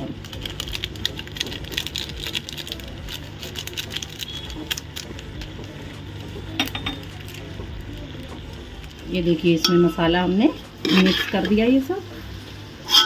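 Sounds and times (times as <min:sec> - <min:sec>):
vegetables frying crackle: 0:00.0 - 0:13.0.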